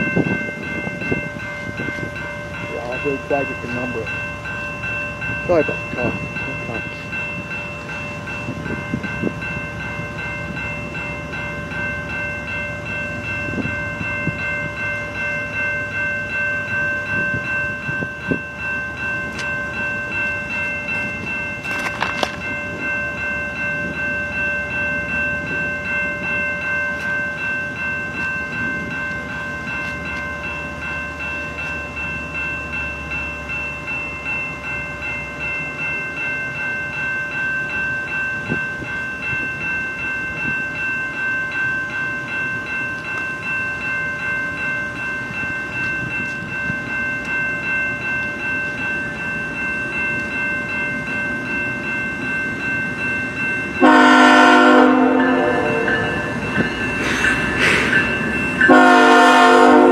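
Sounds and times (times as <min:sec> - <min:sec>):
diesel freight train rumble: 0:00.0 - 0:59.9
railroad crossing bell ringing: 0:00.0 - 0:59.9.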